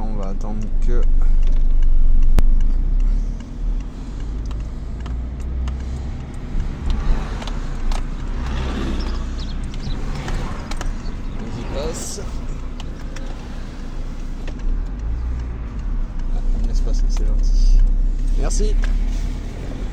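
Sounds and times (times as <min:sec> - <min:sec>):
car engine and road rumble: 0:00.0 - 0:19.9
sharp clicks: 0:00.2 - 0:19.9.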